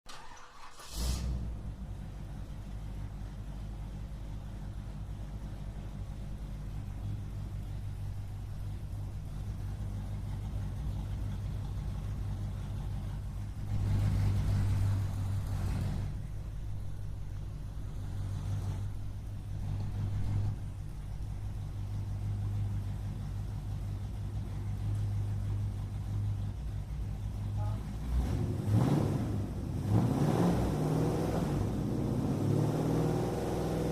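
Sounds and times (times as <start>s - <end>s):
vehicle engine humming: 0.4s - 33.9s.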